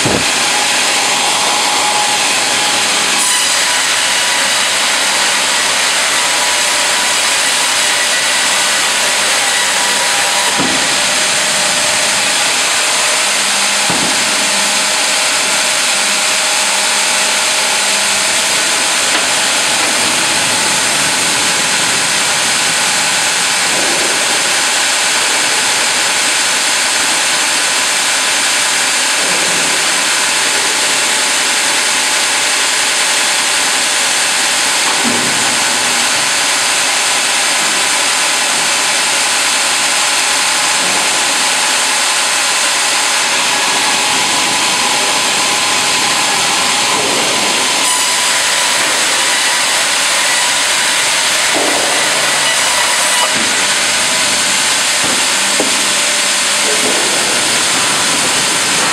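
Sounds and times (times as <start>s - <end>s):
band sawmill machine noise: 0.0s - 58.9s.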